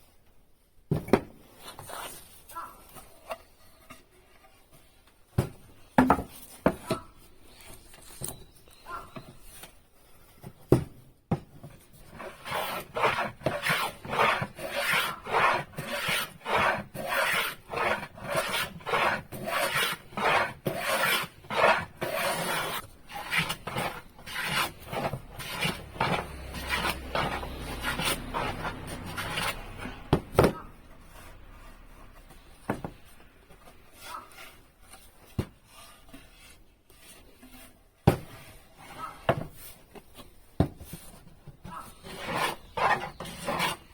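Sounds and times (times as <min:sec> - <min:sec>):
hand tool scraping wood: 0:01.4 - 0:05.0, 0:11.6 - 0:43.9.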